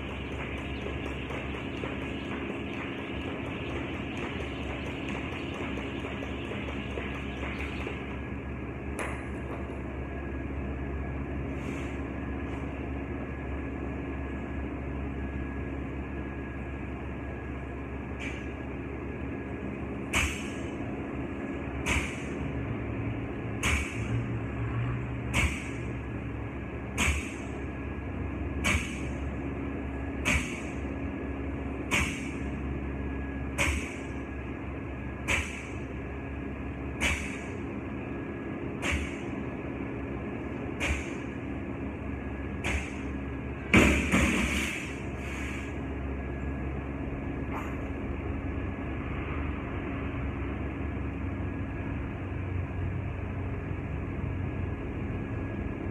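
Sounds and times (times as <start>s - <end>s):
low machine hum: 0.0s - 55.9s.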